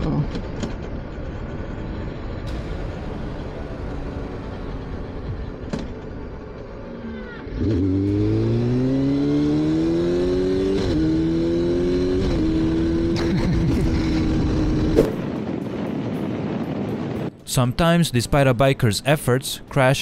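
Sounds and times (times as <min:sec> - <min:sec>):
motorcycle engine accelerating: 0:00.0 - 0:17.3.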